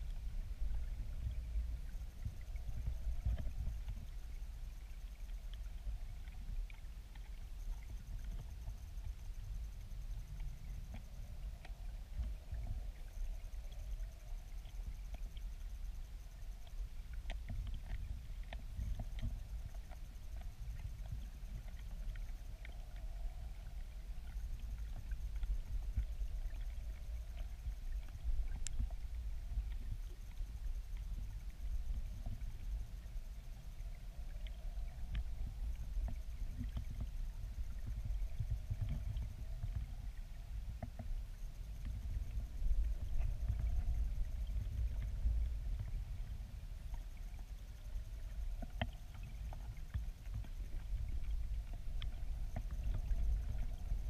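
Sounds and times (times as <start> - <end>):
faint clicks and ticks: 0.0 - 54.0
underwater river rumble: 0.0 - 54.0.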